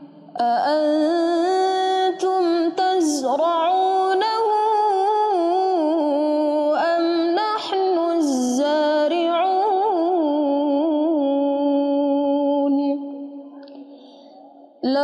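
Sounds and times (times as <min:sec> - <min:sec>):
woman reciting melodically: 0:00.0 - 0:13.8.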